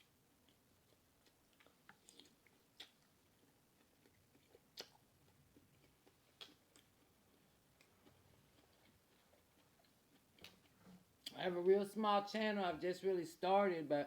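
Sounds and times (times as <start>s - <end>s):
chewing and mouth smacking: 0.0s - 11.4s.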